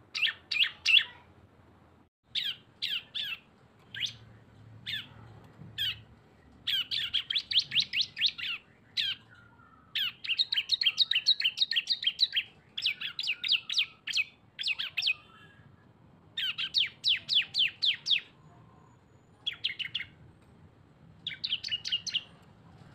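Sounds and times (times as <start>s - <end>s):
bird song of rapid chirps: 0.0s - 1.2s, 2.3s - 20.3s, 21.1s - 22.8s.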